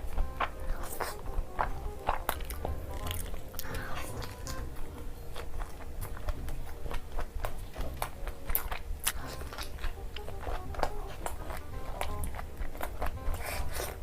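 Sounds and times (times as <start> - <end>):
chewing and biting with wet clicks: 0.0 - 14.0.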